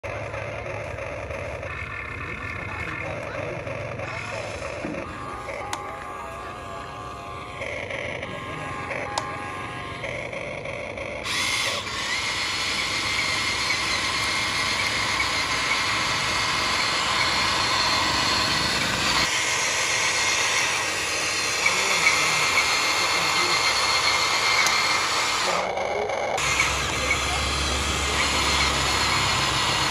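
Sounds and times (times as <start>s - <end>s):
toy excavator motors whirring: 0.0s - 29.9s.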